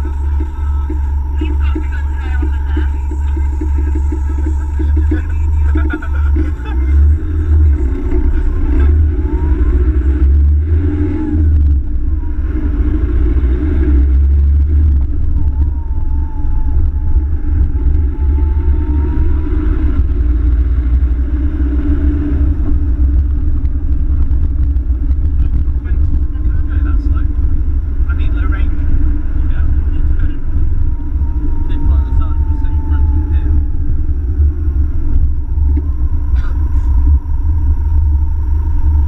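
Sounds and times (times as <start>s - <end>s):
car engine rumbling: 0.0s - 39.0s.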